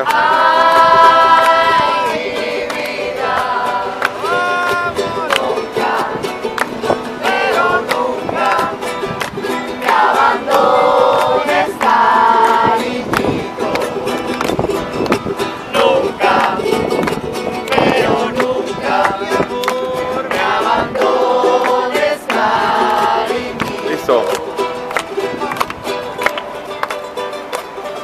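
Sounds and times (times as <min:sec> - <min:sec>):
voices singing held notes: 0:00.0 - 0:25.6
strummed string instrument: 0:00.0 - 0:28.0.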